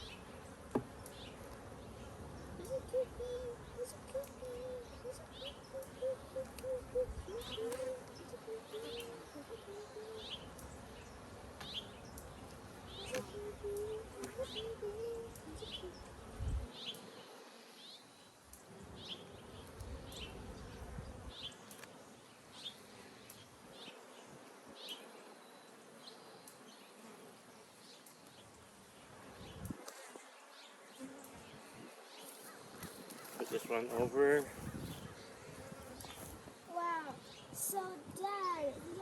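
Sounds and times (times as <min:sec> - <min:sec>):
honey bees buzzing: 0:00.0 - 0:39.0.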